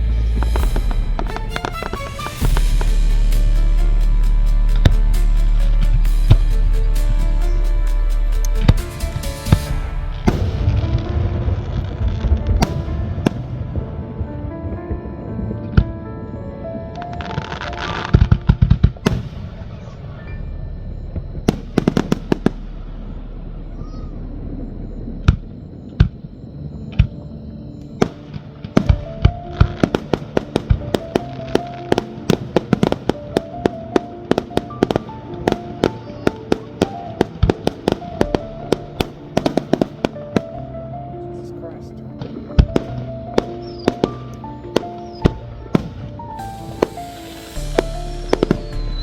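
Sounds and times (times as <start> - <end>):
fireworks bangs: 0.0 - 40.7, 41.3 - 49.0
music playing: 0.0 - 49.0.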